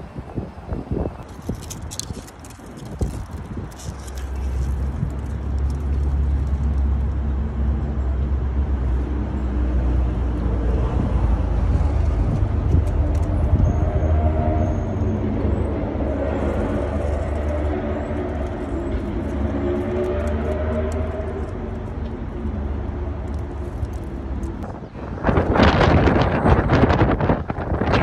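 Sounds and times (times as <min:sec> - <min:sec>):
vehicle engine rumble: 0:00.0 - 0:28.0
humming engine tone: 0:04.4 - 0:28.0.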